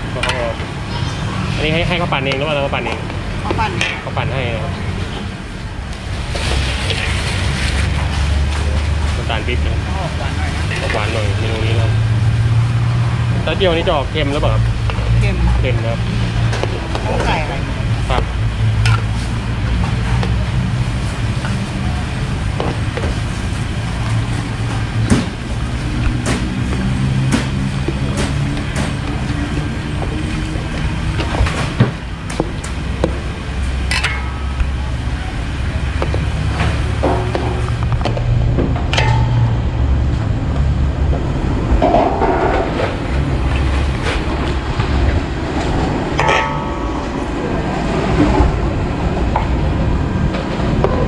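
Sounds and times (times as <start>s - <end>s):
low steady rumble: 0.0s - 51.0s.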